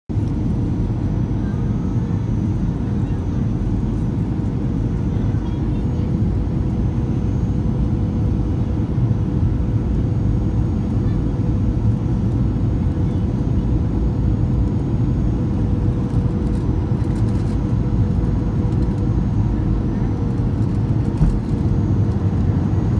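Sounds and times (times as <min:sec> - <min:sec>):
jet engine rumble: 0:00.1 - 0:22.9.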